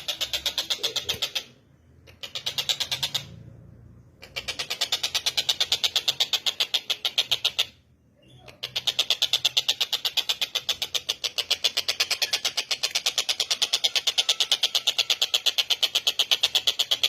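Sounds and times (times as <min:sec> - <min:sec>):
bird calling in a rapid rattle: 0:00.0 - 0:03.4, 0:04.2 - 0:07.8, 0:08.4 - 0:17.0.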